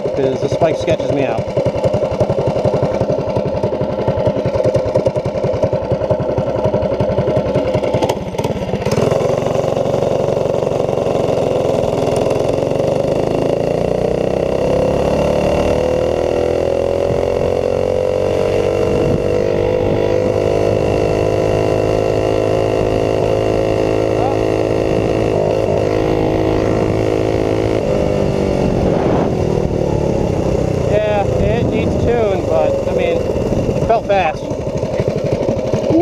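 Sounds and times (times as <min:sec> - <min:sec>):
mini bike engine revving: 0:00.0 - 0:36.0.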